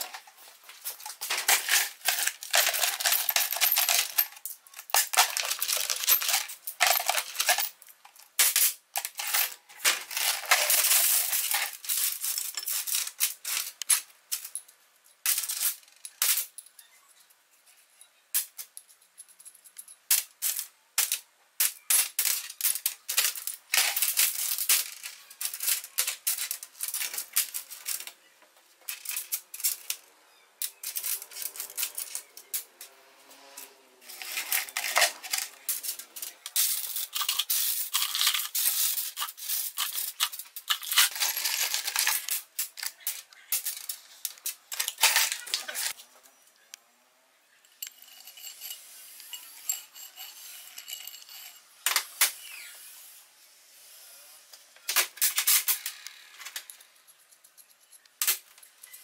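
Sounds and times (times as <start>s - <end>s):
metal nuts and bolts clinking: 0.0s - 28.2s, 28.8s - 46.0s, 47.6s - 52.7s, 54.9s - 59.0s.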